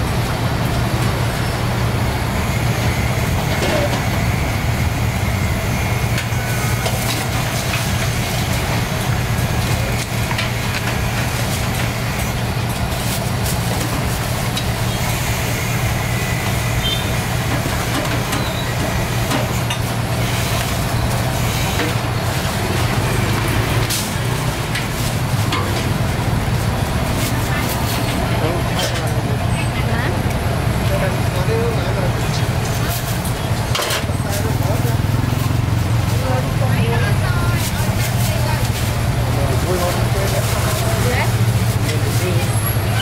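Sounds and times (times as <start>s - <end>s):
street traffic noise: 0.0s - 43.0s.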